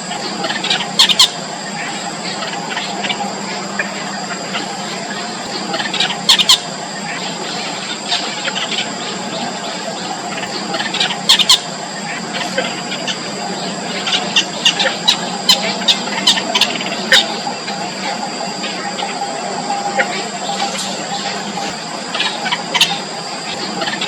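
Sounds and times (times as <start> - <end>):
nestling birds begging squeaks: 0.0 - 24.0
steady background hiss: 0.0 - 24.0.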